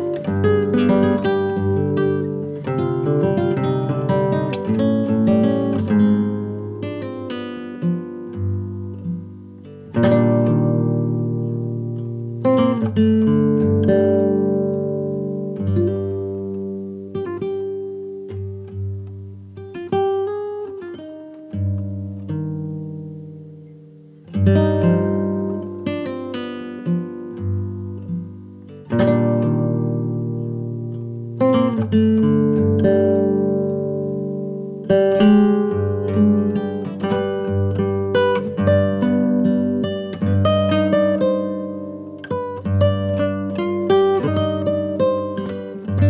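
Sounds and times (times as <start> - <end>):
acoustic guitar chords: 0.0 - 46.0.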